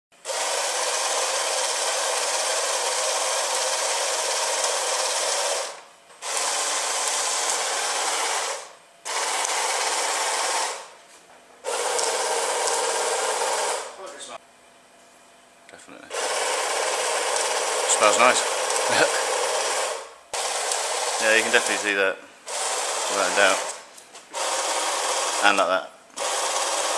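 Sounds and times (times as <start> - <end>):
electric chainsaw running: 0.2 - 10.9, 11.6 - 14.0, 16.1 - 26.9.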